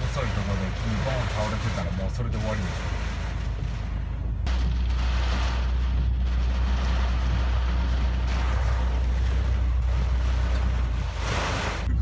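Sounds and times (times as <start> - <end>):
car cabin drone: 0.0 - 12.0.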